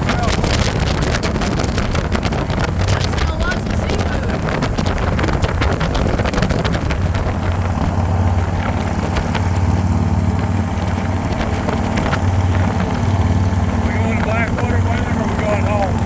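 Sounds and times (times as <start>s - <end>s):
motorcycle engine drone: 0.0s - 16.0s.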